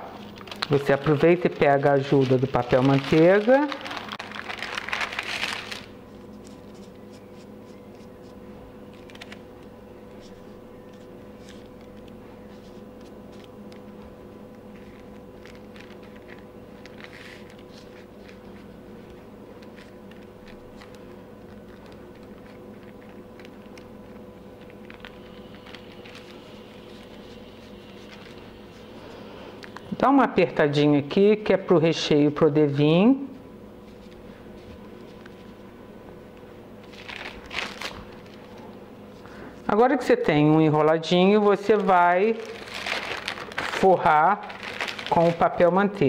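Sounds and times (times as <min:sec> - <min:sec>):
parchment paper rustling: 0:00.0 - 0:29.9, 0:33.8 - 0:35.7, 0:36.8 - 0:46.0
faint hum: 0:00.0 - 0:46.0.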